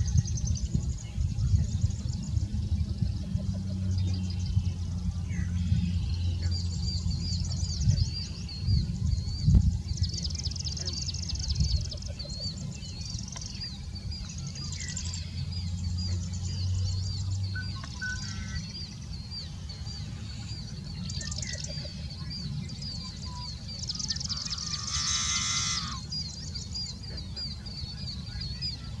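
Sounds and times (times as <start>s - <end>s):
blackbird buzzy song: 0.0s - 29.0s.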